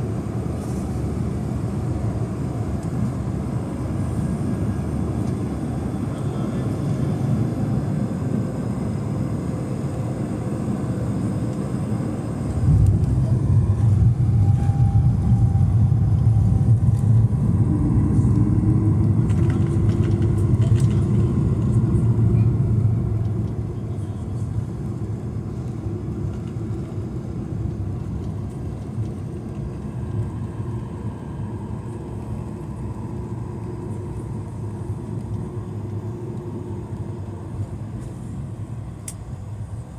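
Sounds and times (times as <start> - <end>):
jet engines reverse thrust rumble: 0.0 - 39.9
aircraft cabin roll noise: 0.1 - 39.9.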